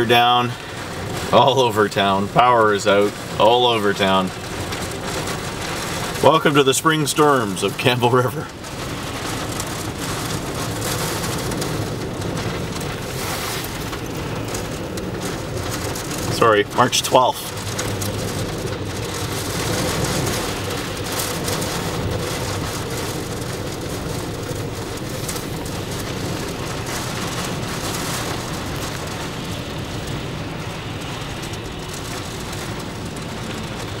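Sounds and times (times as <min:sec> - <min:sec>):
rain: 0:00.0 - 0:34.0
storm wind: 0:00.0 - 0:34.0
heavy surf breaking: 0:05.5 - 0:34.0.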